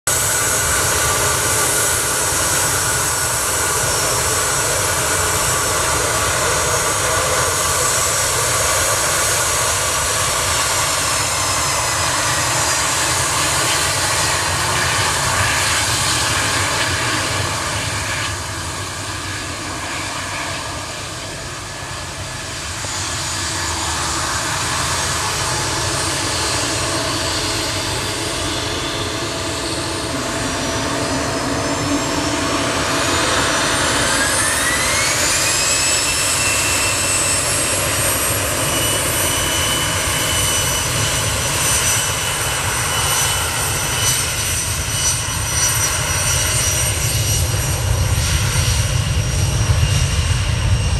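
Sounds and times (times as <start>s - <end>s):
jet engine whine: 0.0s - 50.9s.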